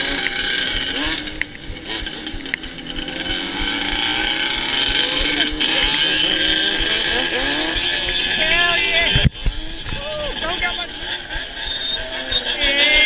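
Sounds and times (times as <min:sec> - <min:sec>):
atv engines revving: 0:00.0 - 0:13.0
tyres on slushy road: 0:00.0 - 0:13.0.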